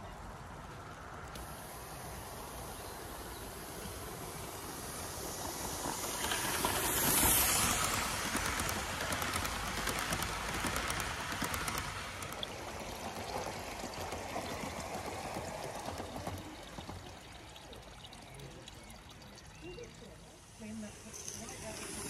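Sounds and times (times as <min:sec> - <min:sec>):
light clicking of model train: 0:00.0 - 0:22.0
steam hissing: 0:00.0 - 0:22.0.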